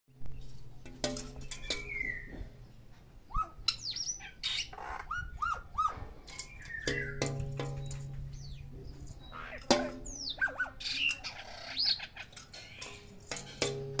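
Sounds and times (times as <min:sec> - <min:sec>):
birds calling and chirping: 0:00.2 - 0:14.0.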